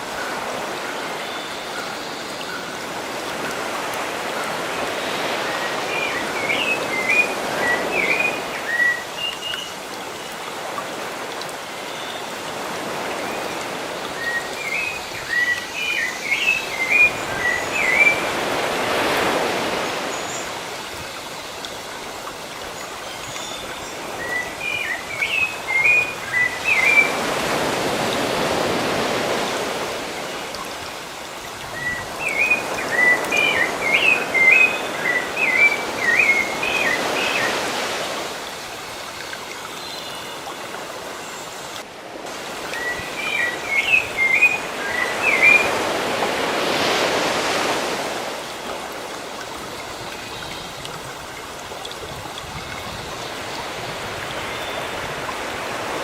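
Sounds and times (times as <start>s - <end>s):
sea waves washing in: 0.0s - 39.8s, 40.4s - 56.0s.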